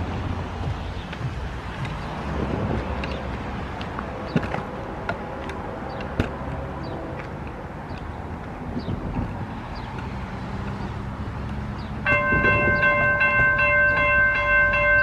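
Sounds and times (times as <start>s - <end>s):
train engine drone: 0.0s - 15.0s.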